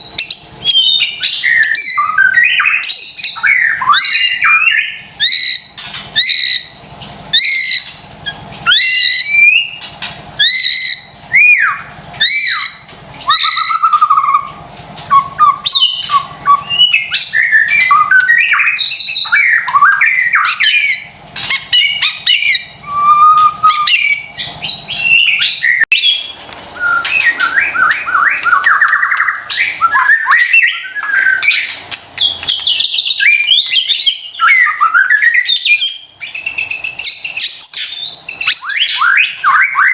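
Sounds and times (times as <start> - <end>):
bird whistling downward notes: 0.0 - 39.9.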